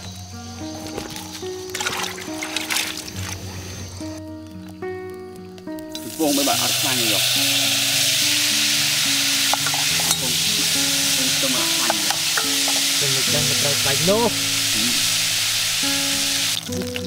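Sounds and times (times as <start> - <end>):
food sizzling in a pot: 0.0 - 17.0
soft background music: 0.0 - 17.0.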